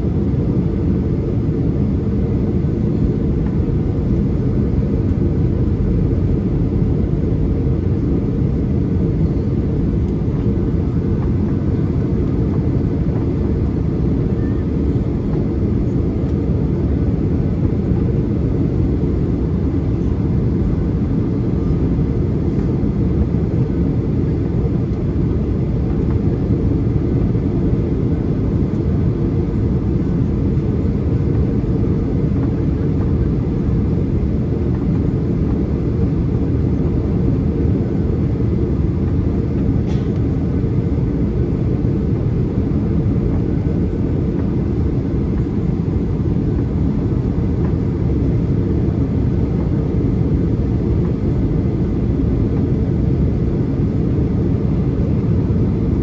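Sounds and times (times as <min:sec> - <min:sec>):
airliner cabin engine noise: 0:00.0 - 0:56.0.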